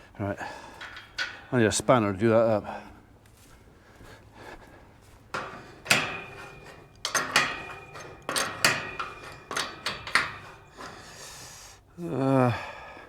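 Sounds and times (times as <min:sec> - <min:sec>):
metal clanking: 0:00.4 - 0:04.1, 0:05.0 - 0:11.8.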